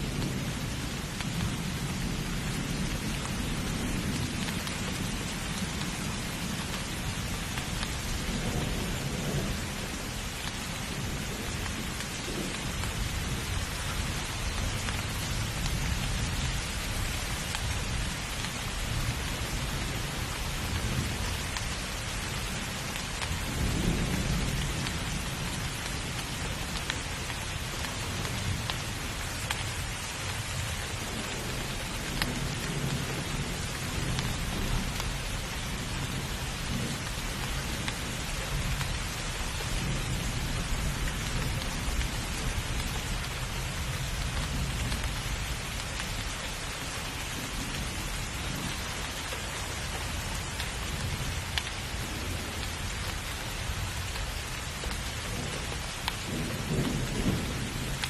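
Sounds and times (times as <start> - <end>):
thunder rumbling: 0.0 - 21.2, 30.0 - 58.0
heavy rain falling: 0.0 - 58.0.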